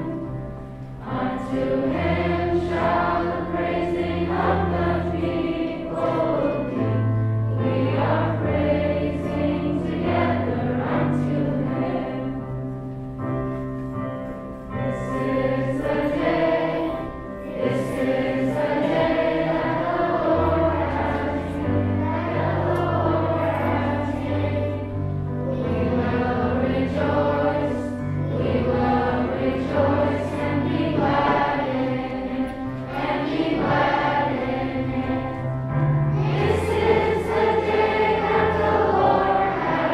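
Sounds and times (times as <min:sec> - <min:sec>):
children's choir singing a hymn: 0:00.0 - 0:39.9
instrumental accompaniment: 0:00.0 - 0:39.9.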